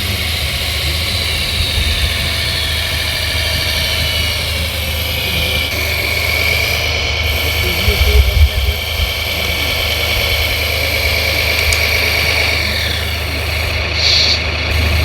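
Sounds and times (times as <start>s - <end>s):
high electric whine: 0.0s - 15.0s
model truck engine hum: 0.0s - 15.0s.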